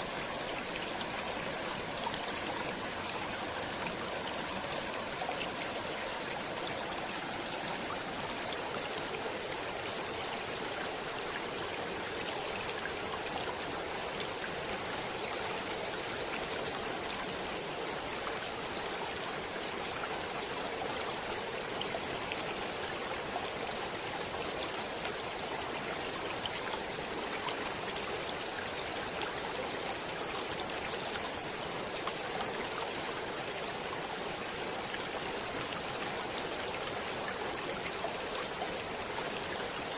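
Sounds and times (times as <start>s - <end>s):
small splashes and trickles: 0.0s - 39.9s
stream water rushing: 0.0s - 39.9s.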